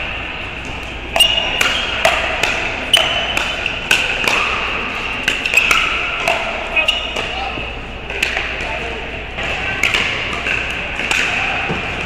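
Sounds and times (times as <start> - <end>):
paddles hitting pickleball: 0.6 - 12.0.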